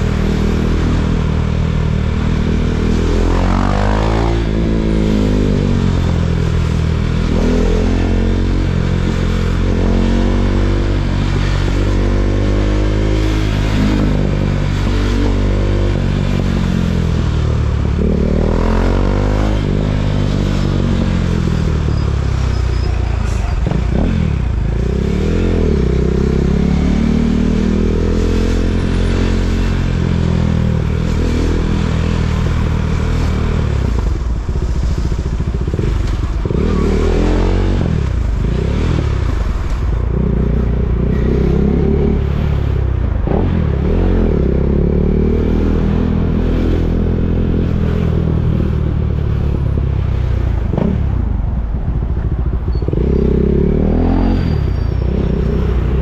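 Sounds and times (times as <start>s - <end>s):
motorcycle engine revving: 0.0s - 22.6s, 23.6s - 56.0s.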